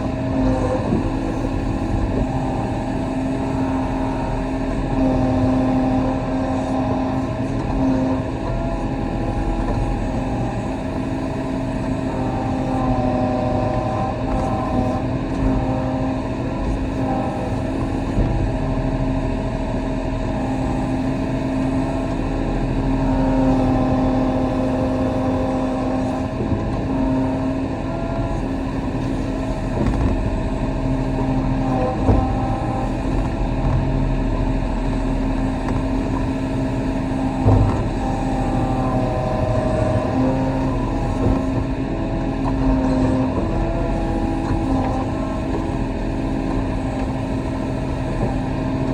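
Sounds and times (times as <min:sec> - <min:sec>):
diesel engine under load: 0:00.0 - 0:48.9
hydraulic whine: 0:00.0 - 0:48.9.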